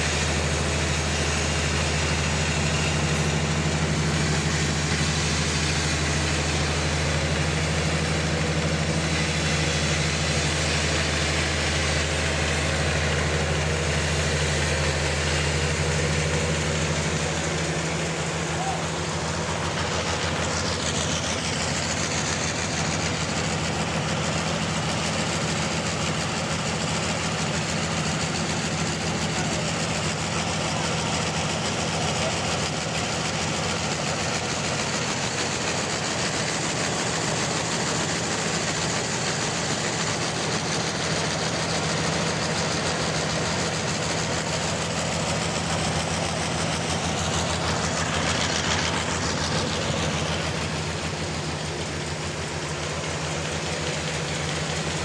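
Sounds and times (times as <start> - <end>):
saw blade hissing through log: 0.0 - 54.9
sawmill engine running: 0.0 - 55.0.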